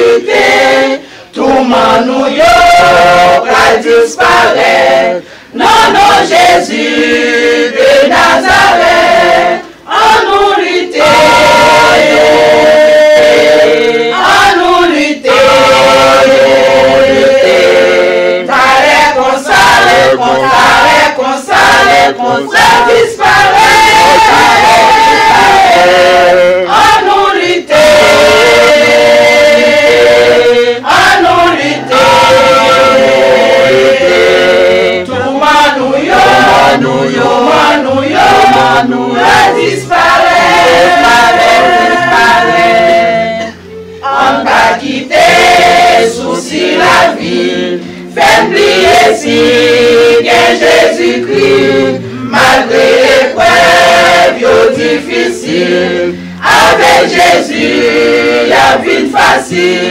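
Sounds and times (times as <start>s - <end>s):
women's choir singing a hymn: 0.0s - 59.9s.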